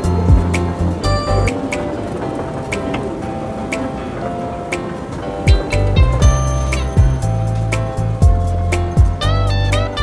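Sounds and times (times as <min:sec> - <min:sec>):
music with sustained tones: 0:00.0 - 0:10.0.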